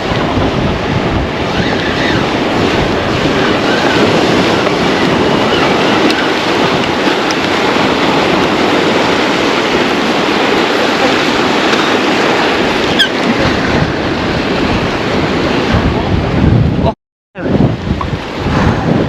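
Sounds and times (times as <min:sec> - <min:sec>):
sea washing against rocks: 0:00.0 - 0:16.8, 0:17.5 - 0:19.0
wind buffeting microphone: 0:00.0 - 0:19.0.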